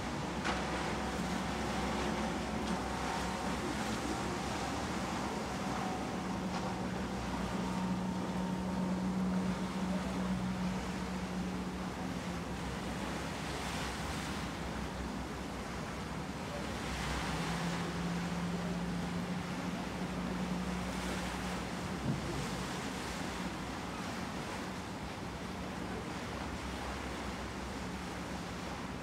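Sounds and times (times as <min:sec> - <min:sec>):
low motor hum: 0:00.0 - 0:29.0
water rushing at ship's bow: 0:00.0 - 0:29.0.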